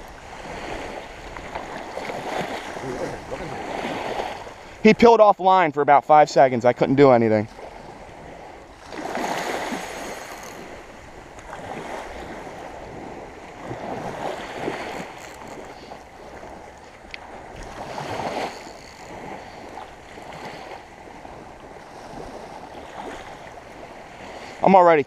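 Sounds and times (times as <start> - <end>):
small waves washing on shore: 0.0 - 25.0.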